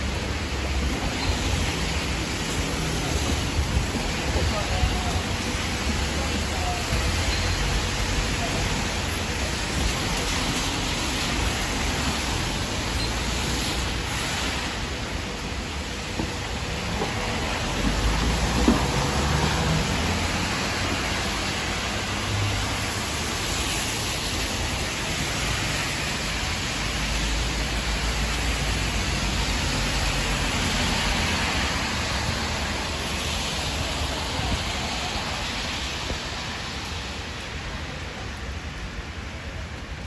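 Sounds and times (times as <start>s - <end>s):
bus rumbling past: 0.0s - 37.2s
heavy rain on street: 0.0s - 40.0s
tyres swishing on wet road: 0.0s - 40.0s.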